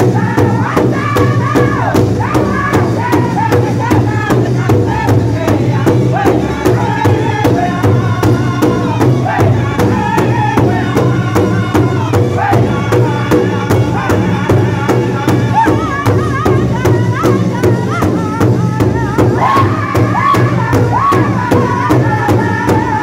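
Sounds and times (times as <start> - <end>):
group singing in high chorus: 0.0 - 23.0
steady drum beat: 0.0 - 23.0.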